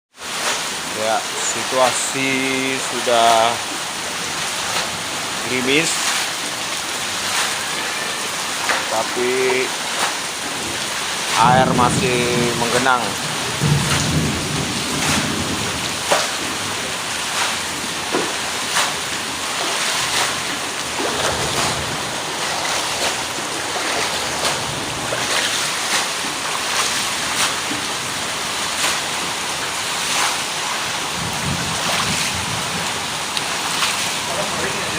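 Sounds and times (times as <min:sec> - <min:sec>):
water drips and splashes: 0:00.1 - 0:34.9
light rain on water: 0:00.2 - 0:34.9.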